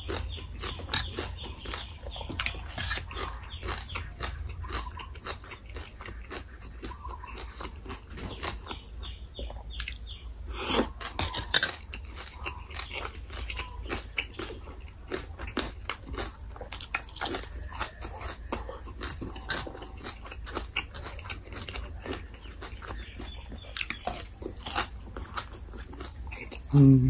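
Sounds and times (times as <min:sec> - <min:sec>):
person chewing and crunching food: 0:00.0 - 0:27.0.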